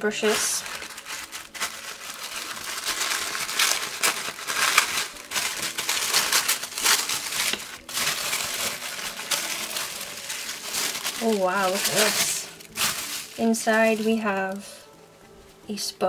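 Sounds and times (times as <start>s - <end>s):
wrapping paper crinkling: 0.0s - 15.6s.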